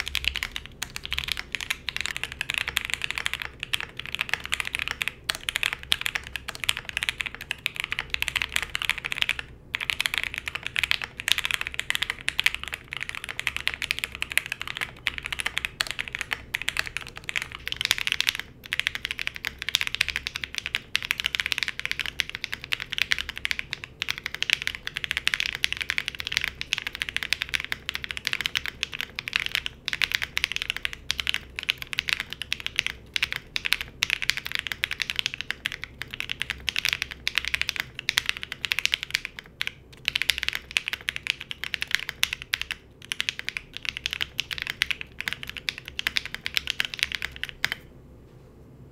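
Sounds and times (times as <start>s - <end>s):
mechanical keyboard typing: 0.0s - 47.9s.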